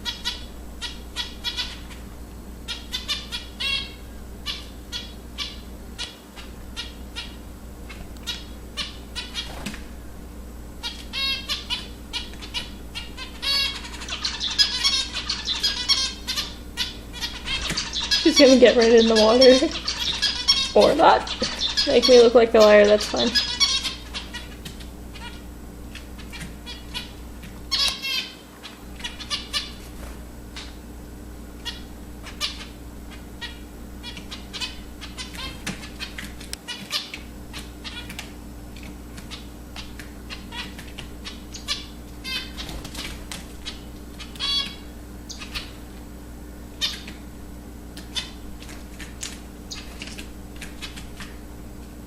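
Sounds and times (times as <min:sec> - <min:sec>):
finches beeping calls: 0:00.0 - 0:09.7, 0:10.8 - 0:30.8, 0:31.6 - 0:38.3, 0:39.2 - 0:45.8, 0:46.7 - 0:47.2, 0:48.0 - 0:48.7, 0:49.6 - 0:51.3.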